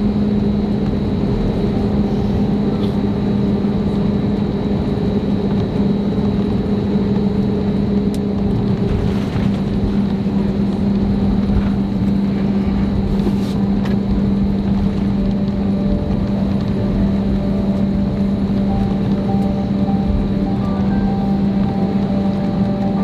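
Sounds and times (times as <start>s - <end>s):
airplane cabin low drone: 0.0s - 23.0s
faint steady tones: 0.0s - 23.0s.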